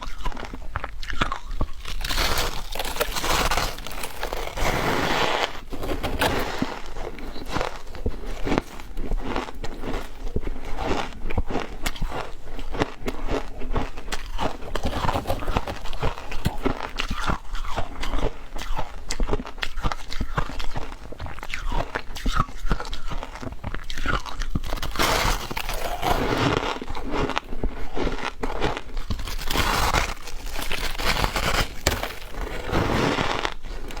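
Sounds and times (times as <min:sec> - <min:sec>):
chewing ice crunches: 0:00.0 - 0:34.0.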